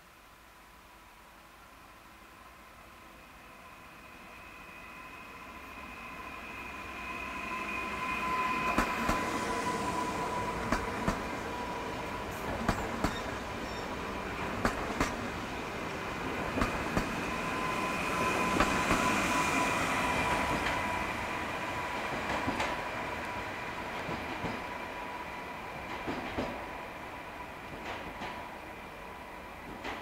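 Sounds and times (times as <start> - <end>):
train rolling noise: 2.0 - 30.0.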